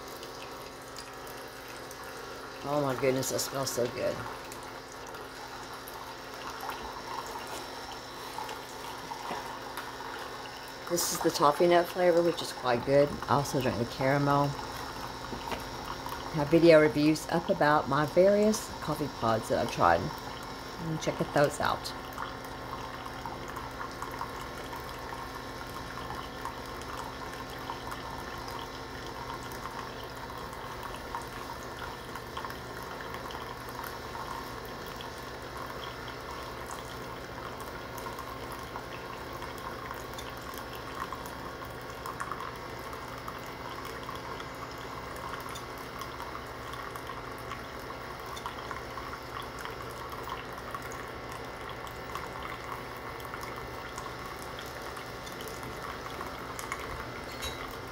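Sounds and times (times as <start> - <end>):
coffee machine hum: 0.0 - 57.9
coffee pouring and dripping: 0.0 - 57.9.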